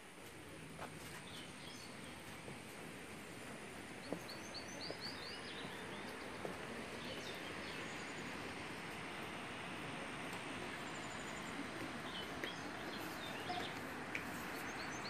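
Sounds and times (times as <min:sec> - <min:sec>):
steady outdoor hiss: 0:00.0 - 0:15.0
small birds chirping: 0:00.9 - 0:15.0.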